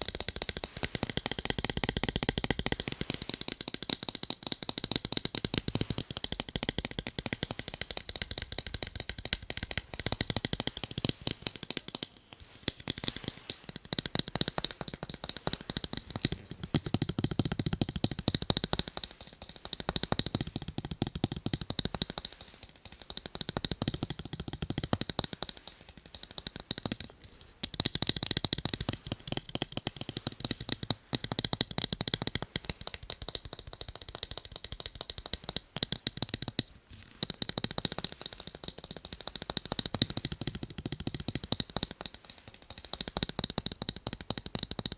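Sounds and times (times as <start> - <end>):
tapping on eyeglasses: 0.0 - 44.9.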